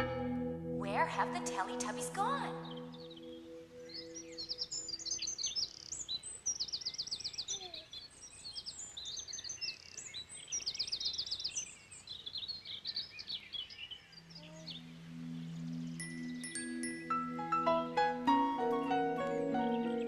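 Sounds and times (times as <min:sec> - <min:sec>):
bird trill: 0:00.0 - 0:20.0
birds chirping and singing: 0:00.0 - 0:20.0.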